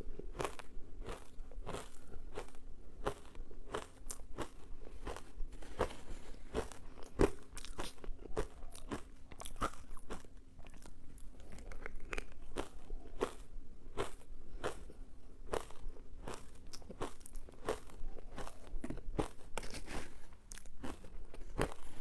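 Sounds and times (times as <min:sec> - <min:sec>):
ice being chewed: 0:00.1 - 0:22.0.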